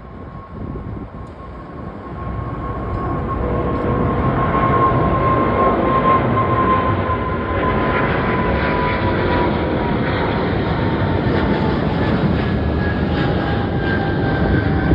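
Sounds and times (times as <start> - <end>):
airliner engines roaring: 0.0 - 14.9.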